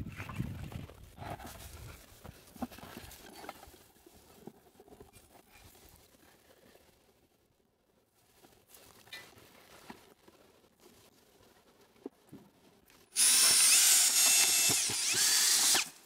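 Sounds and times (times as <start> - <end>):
trike rolling over rough ground: 0.0 - 15.8.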